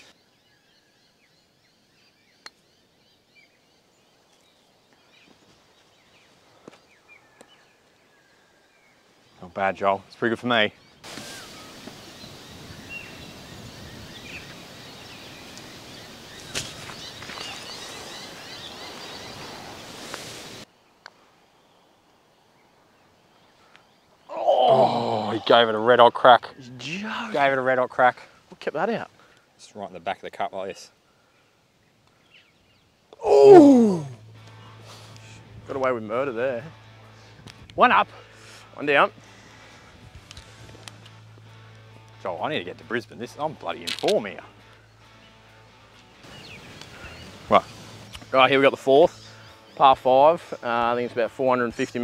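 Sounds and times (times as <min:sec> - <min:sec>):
faint bird chirping: 0:00.0 - 0:20.1, 0:20.7 - 0:37.3, 0:44.4 - 0:52.0
breeze and rustling: 0:03.2 - 0:24.4, 0:26.0 - 0:52.0.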